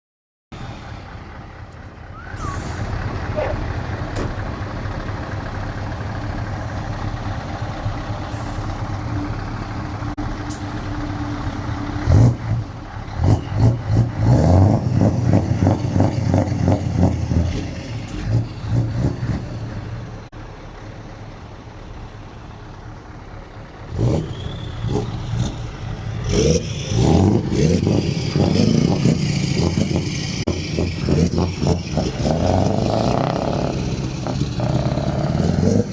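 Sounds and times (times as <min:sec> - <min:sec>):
truck engines revving: 0:00.6 - 0:35.9.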